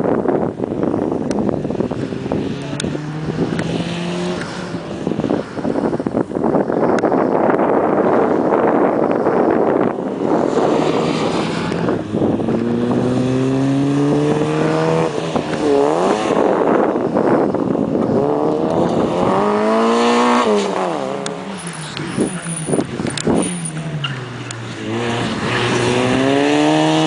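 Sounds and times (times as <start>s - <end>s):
rally car engine accelerating: 0.8s - 5.9s, 8.1s - 27.0s.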